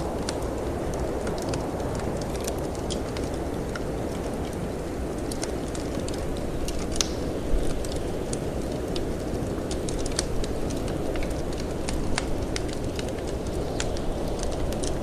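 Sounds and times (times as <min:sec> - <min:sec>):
low rush of wind: 0:00.0 - 0:15.0
wood fire crackling and popping: 0:00.0 - 0:15.0.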